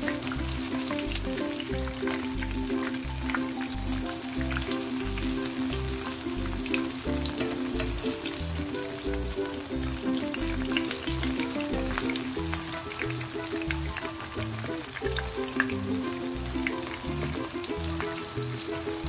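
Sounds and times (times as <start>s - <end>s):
background music with steady beat: 0.0s - 19.0s
food sizzling in hot oil: 0.0s - 19.0s.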